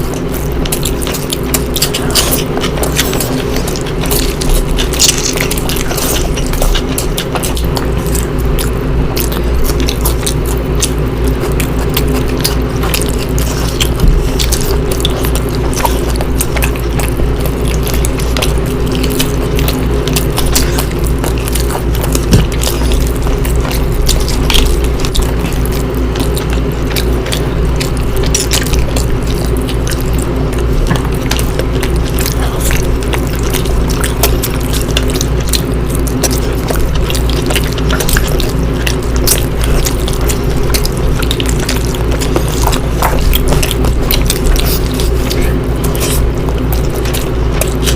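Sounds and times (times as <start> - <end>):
steady low hum: 0.0 - 47.9
wet chewing and smacking: 0.0 - 47.9.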